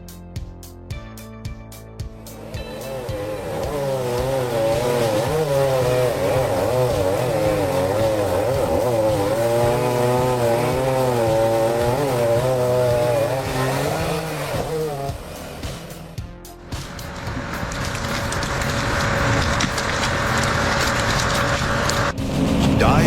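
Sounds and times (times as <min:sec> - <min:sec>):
chainsaw cutting wood: 0:02.2 - 0:23.0.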